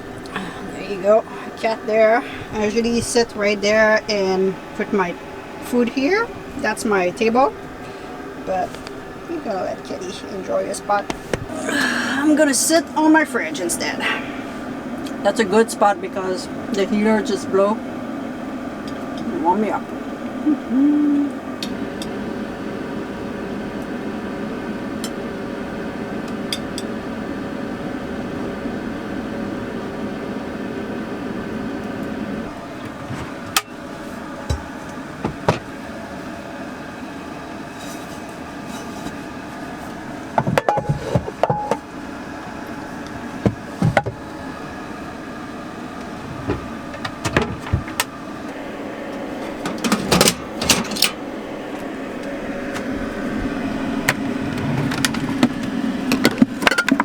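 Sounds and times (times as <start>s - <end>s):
heater fan humming: 0.0s - 57.0s.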